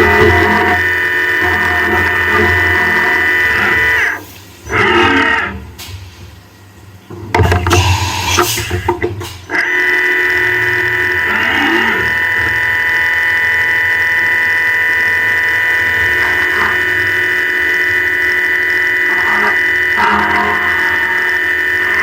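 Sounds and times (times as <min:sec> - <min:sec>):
milling machine spindle whine: 0:00.0 - 0:05.8, 0:07.3 - 0:22.0.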